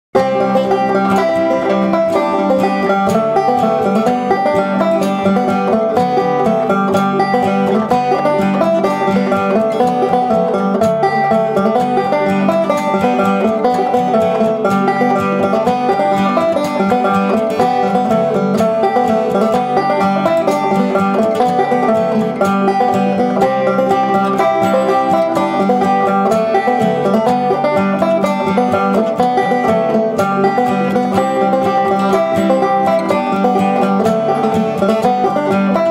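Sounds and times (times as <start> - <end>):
banjo picking: 0.2 - 35.9.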